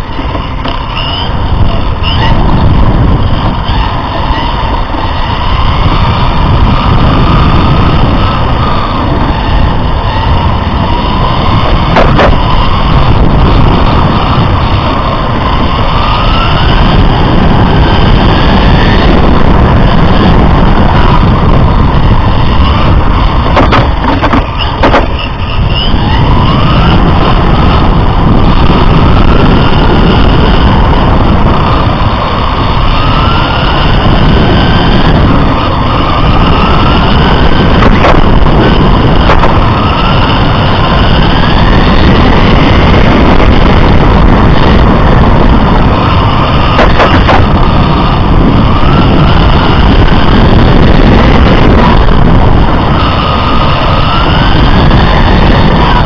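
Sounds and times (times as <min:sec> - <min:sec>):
electric motor whine: 0:00.0 - 0:56.0
tyres rumbling on rough asphalt: 0:00.0 - 0:56.0.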